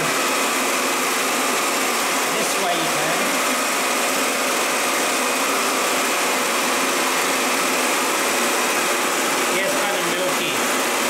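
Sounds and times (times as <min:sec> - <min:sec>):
paint sprayer running: 0:00.0 - 0:11.0
spray gun spraying into bucket: 0:00.0 - 0:11.0.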